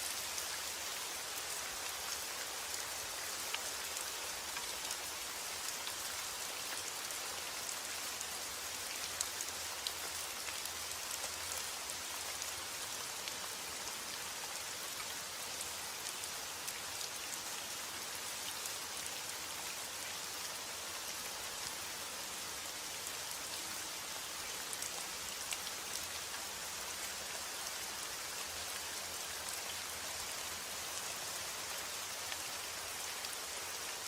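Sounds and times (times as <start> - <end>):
rain on hard surface: 0.0 - 34.0.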